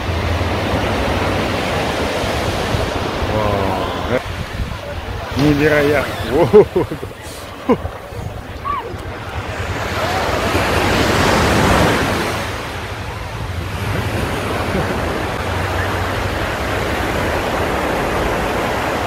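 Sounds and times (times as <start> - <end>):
waves washing up a sandy beach: 0.0 - 19.0.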